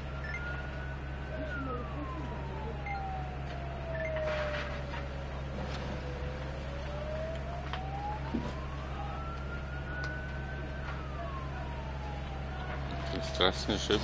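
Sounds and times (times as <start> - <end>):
siren wailing: 0.0 - 14.0
steady low hum: 0.0 - 14.0.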